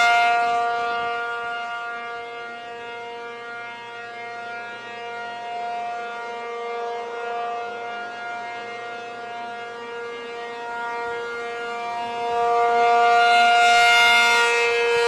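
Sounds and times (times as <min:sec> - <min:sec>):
tornado siren steady tone: 0:00.0 - 0:15.0.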